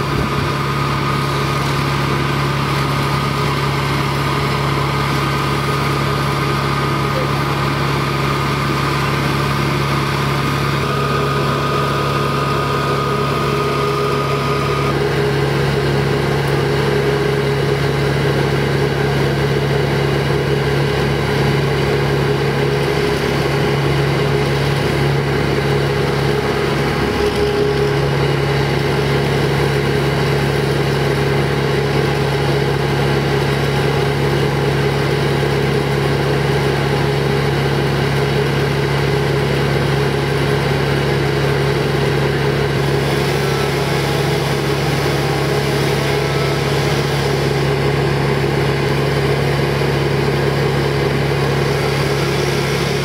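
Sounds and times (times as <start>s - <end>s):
wood chipper engine running: 0.0s - 53.0s.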